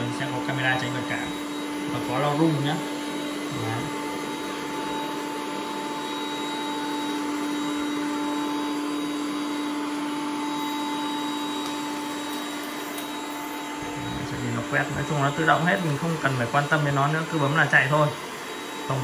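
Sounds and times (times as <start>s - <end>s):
robot vacuum fan whirring: 0.0s - 19.0s.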